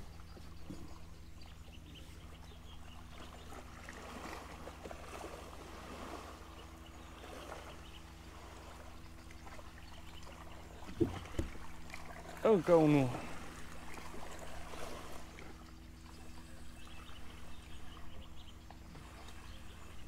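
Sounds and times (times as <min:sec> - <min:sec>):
low motor hum: 0:00.0 - 0:20.0
river water lapping: 0:00.0 - 0:20.0.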